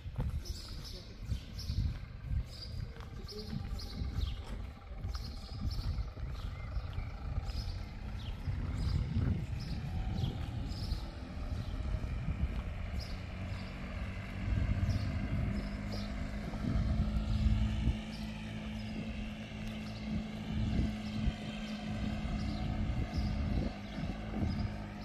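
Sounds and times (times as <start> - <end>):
distant engine hum: 0.0 - 25.0
low rumble on microphone: 0.0 - 25.0.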